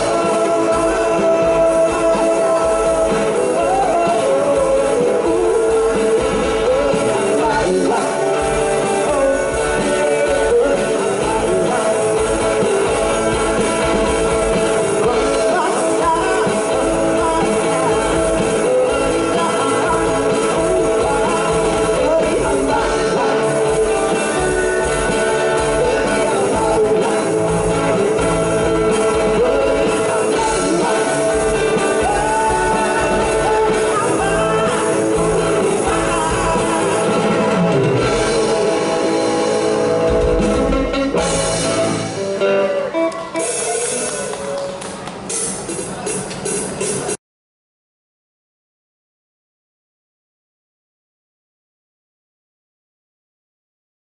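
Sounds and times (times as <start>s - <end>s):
person singing: 0.0s - 45.1s
bass guitar: 0.0s - 47.2s
drum kit: 0.0s - 47.2s
electric guitars: 0.0s - 47.2s
live rock band playing: 0.0s - 47.2s.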